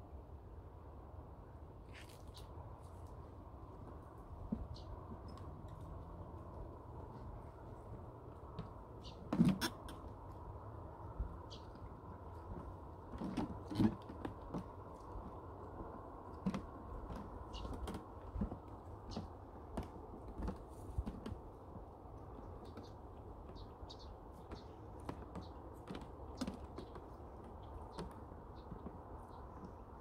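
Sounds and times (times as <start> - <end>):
footsteps on wooden boardwalk: 3.1 - 10.5, 11.2 - 30.0.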